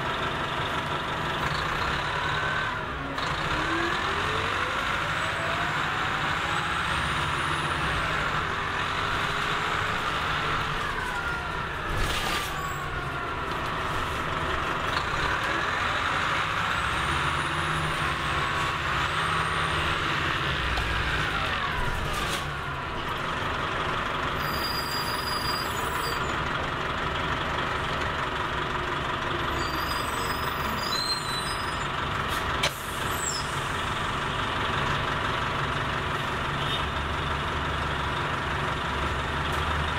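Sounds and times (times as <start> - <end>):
bus engine whine: 0.0 - 39.9.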